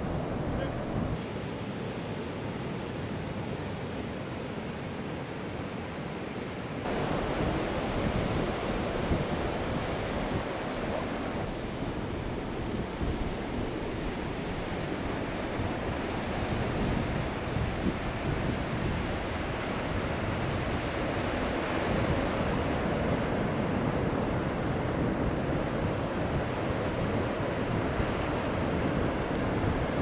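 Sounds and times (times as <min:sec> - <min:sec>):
ocean surf washing onto beach: 0:00.0 - 0:30.0.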